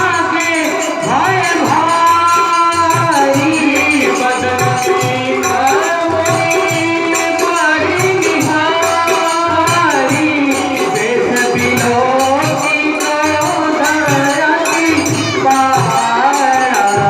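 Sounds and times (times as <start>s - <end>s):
devotional song melody: 0.0s - 17.0s
jingling percussion: 0.0s - 17.0s
steady drum beat: 0.0s - 17.0s.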